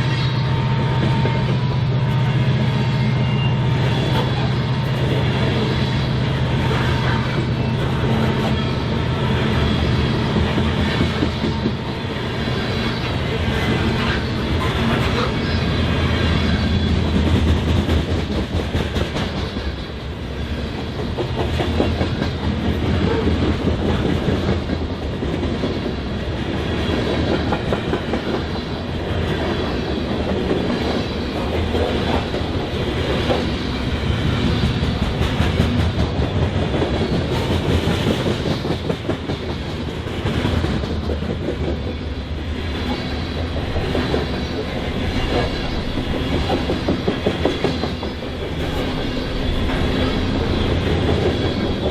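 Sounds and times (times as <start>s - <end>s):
freight train cars rumbling past: 0.0s - 51.9s.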